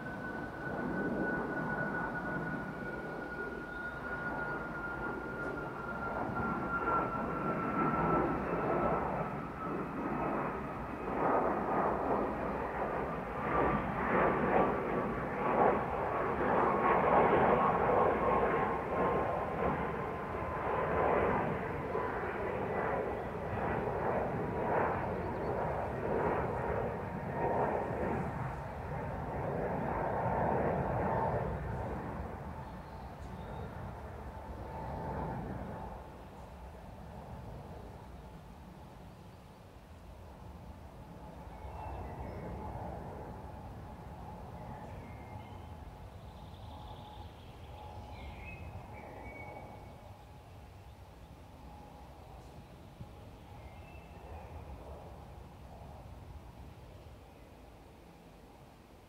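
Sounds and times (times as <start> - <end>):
airliner passing overhead: 0.0 - 59.0.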